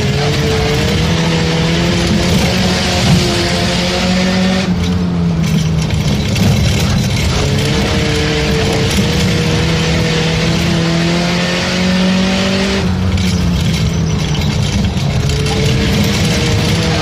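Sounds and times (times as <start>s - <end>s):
constant rushing noise: 0.0s - 17.0s
race car engine revving: 0.0s - 17.0s.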